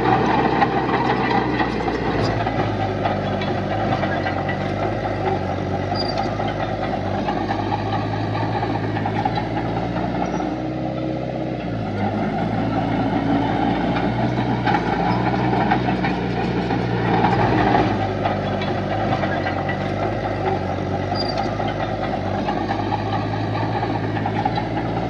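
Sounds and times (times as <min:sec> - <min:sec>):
heavy machinery diesel engine: 0:00.0 - 0:25.0.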